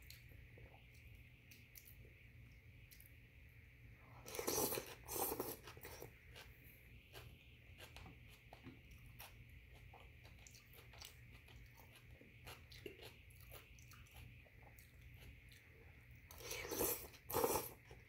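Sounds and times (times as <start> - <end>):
quiet chewing: 0.0 - 3.2, 4.1 - 18.0.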